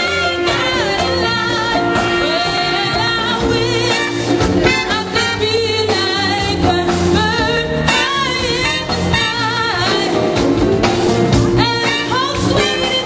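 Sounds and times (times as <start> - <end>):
woman singing with vibrato: 0.0 - 10.4, 11.5 - 13.0
congas: 0.0 - 13.0
live band playing: 0.0 - 13.0.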